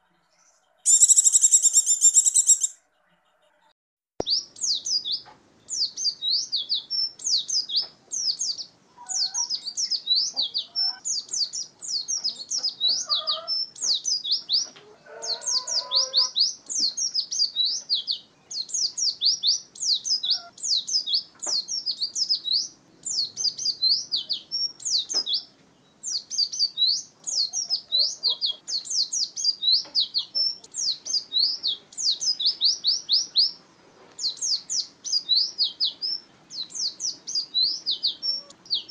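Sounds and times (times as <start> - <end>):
bird chattering song: 0.4 - 3.6, 4.2 - 33.6, 34.2 - 38.9.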